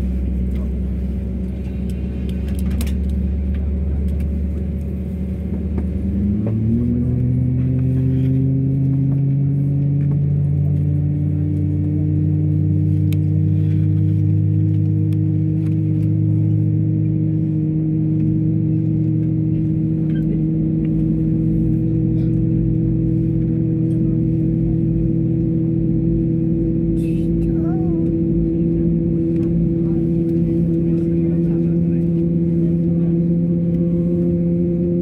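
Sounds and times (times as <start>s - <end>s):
droning tones: 0.0s - 35.0s
jet engines rumbling in cabin: 0.0s - 35.0s.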